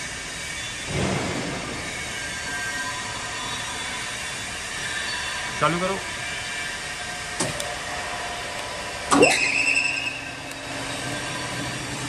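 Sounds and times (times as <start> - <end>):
motor clunk and rising whine: 0.0 - 5.6, 6.4 - 12.0
machine running noise: 0.0 - 12.0.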